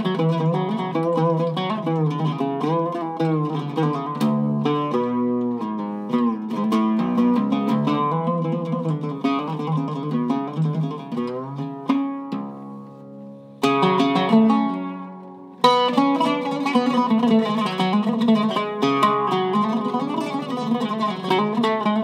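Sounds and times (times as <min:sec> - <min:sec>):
oud plucked with a pick: 0:00.0 - 0:22.0.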